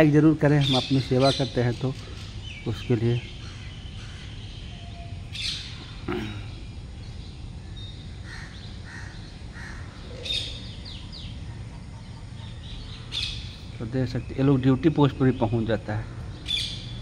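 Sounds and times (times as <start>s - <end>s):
harsh bird calls: 0.0s - 17.0s
high falling bird chirps: 0.0s - 17.0s
low background noise: 0.0s - 17.0s.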